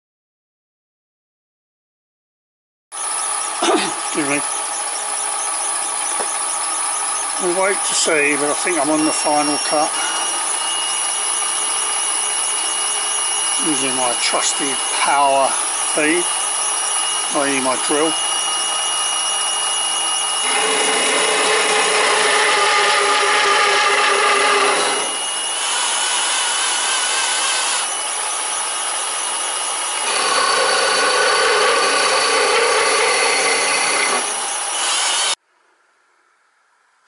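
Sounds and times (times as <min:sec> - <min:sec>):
cordless drill whining: 0:03.0 - 0:35.4
milling machine cutting metal: 0:03.0 - 0:35.4.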